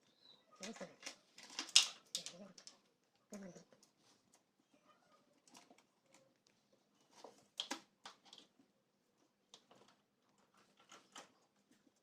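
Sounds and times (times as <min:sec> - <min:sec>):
light clicks and rustles of handling: 0:00.0 - 0:12.0.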